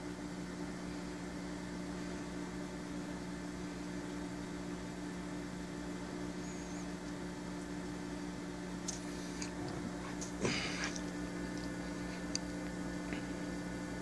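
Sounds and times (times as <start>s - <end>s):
aquarium equipment humming: 0.0s - 14.0s.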